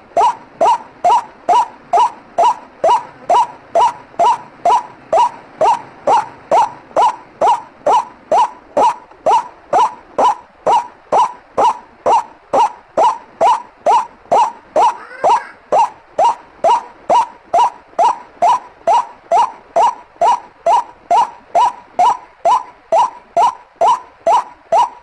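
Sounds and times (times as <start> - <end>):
waterhen calling: 0.0 - 25.0.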